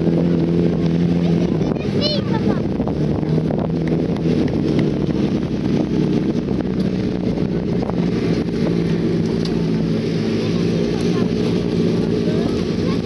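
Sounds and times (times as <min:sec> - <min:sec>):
buggy engines humming: 0:00.0 - 0:13.0
wind on microphone: 0:00.0 - 0:13.0.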